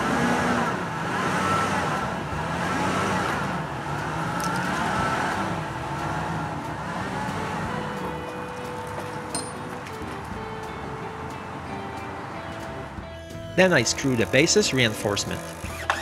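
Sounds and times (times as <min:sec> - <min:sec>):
pickup truck engine revving: 0:00.0 - 0:16.0.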